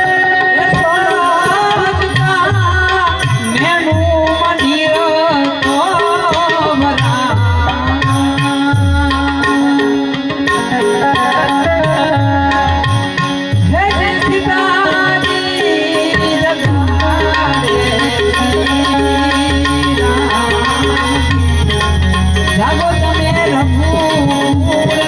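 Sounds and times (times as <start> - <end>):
harmonium melody: 0.0 - 25.0
tabla strokes: 0.0 - 25.0.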